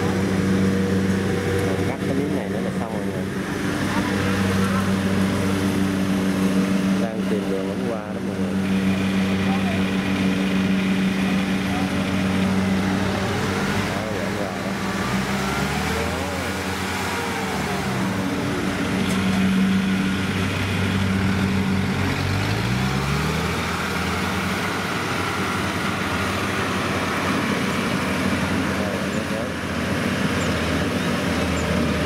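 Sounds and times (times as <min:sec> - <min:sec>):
combine harvester engine humming: 0:00.0 - 0:32.0.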